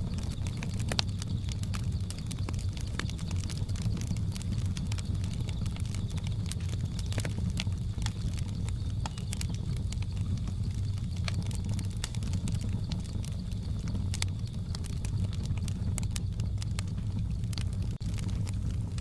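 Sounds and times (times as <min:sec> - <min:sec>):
low rumble: 0:00.0 - 0:19.0
wood fire crackling and popping: 0:00.0 - 0:19.0.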